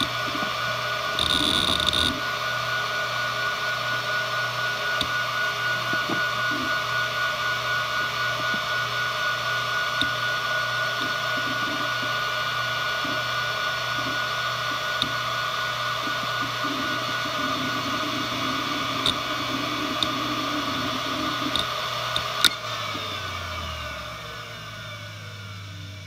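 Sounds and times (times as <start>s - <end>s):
hard drive hum and whine: 0.0s - 26.0s.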